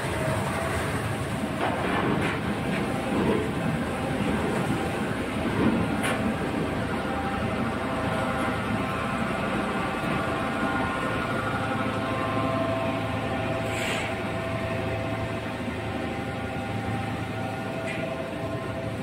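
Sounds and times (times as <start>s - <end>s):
machinery motors humming: 0.0s - 19.0s.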